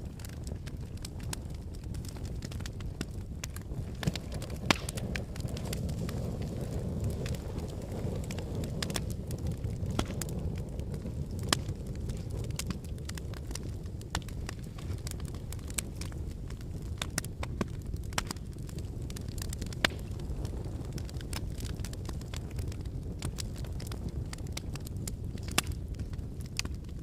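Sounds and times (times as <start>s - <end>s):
burning logs crackling and popping: 0.0s - 27.0s
flames low rumble: 0.0s - 27.0s.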